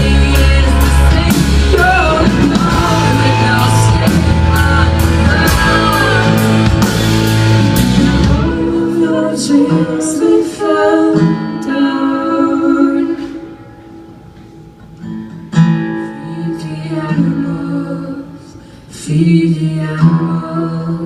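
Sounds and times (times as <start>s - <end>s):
person singing: 0.0s - 13.7s, 15.6s - 21.0s
live rock band playing: 0.0s - 18.1s
guitar: 0.0s - 21.0s.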